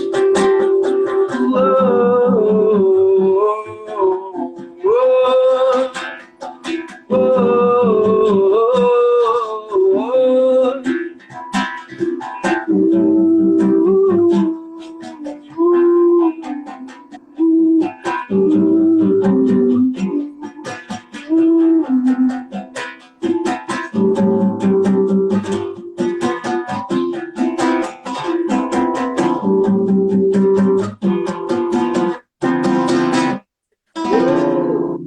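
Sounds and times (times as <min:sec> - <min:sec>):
acoustic plucked string strumming: 0:00.0 - 0:35.0.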